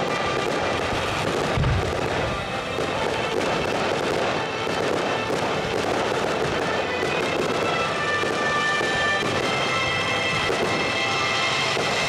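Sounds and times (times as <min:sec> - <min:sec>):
fireworks popping and crackling: 0:00.0 - 0:12.0
music playing: 0:00.0 - 0:12.0.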